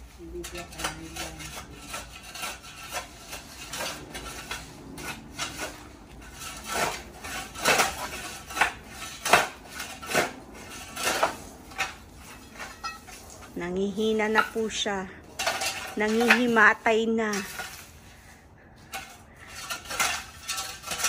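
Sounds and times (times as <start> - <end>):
shovel scraping dry dirt: 0.5 - 21.0.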